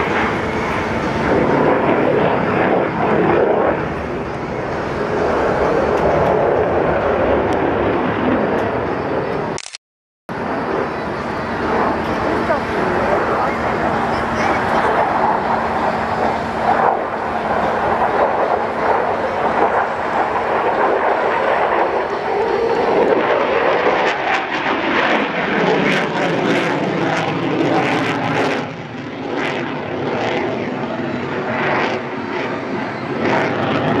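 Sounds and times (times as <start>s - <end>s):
fighter jet engine roaring: 0.0s - 34.0s.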